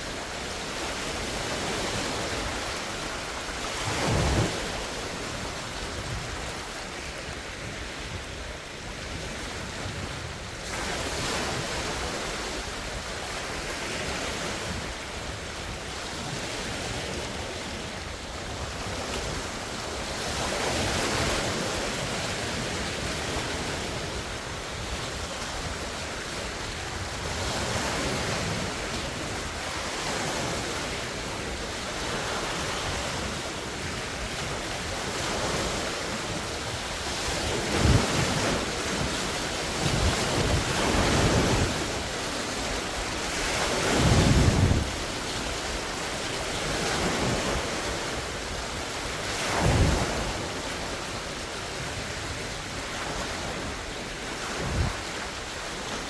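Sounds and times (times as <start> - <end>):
waves splashing: 0.0 - 56.0
wind rumble on microphone: 0.0 - 56.0.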